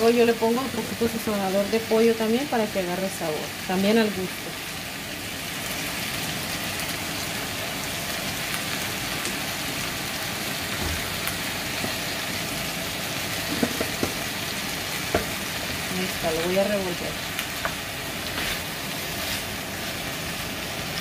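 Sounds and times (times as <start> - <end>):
vegetables sizzling in a frying pan: 0.0 - 21.0.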